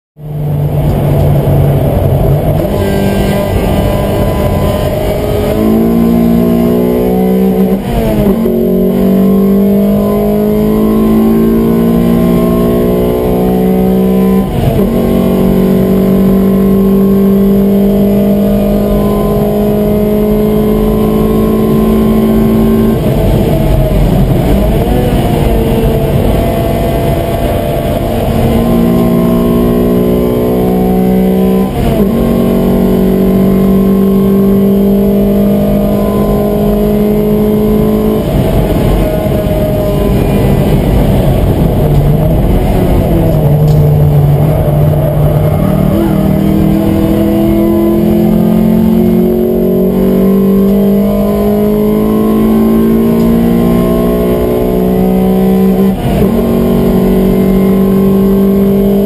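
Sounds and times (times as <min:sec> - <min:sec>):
car engine accelerating hard: 0:00.2 - 0:59.0.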